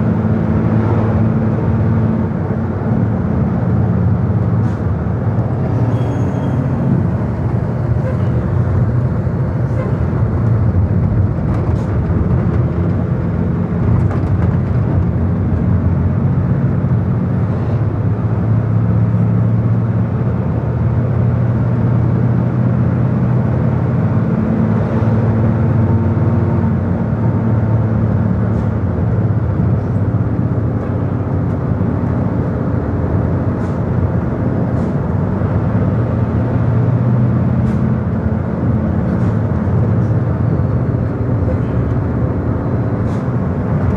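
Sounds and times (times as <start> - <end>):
vehicle engine drone: 0.0 - 43.9.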